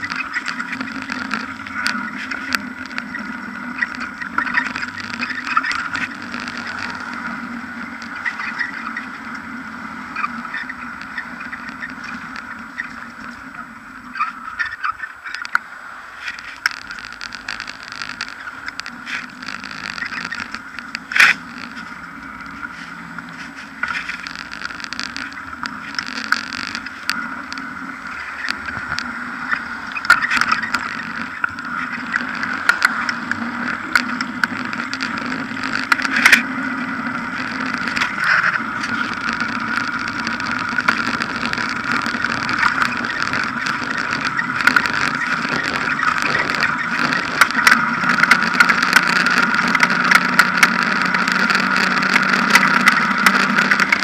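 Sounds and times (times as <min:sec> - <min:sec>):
clicks and rattles from bumps: 0:00.0 - 0:09.4, 0:16.2 - 0:54.0
bicycle tyre road noise: 0:00.0 - 0:54.0.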